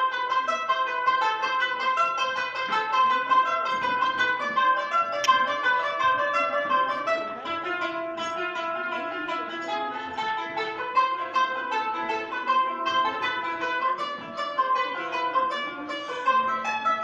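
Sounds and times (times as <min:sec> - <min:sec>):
plucked zither notes: 0:00.0 - 0:17.0.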